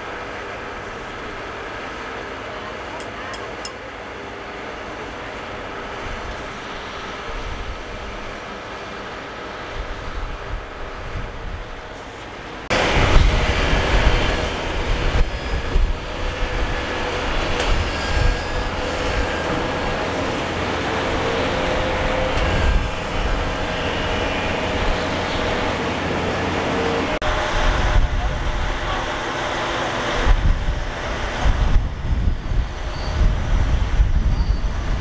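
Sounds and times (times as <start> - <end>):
heavy diesel machinery running: 0.0 - 35.0.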